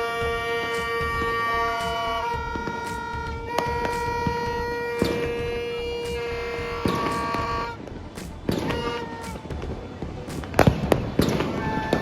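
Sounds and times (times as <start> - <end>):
firecracker bangs: 0.0 - 12.0
higher horn: 0.0 - 12.0
horn blast: 0.0 - 12.0.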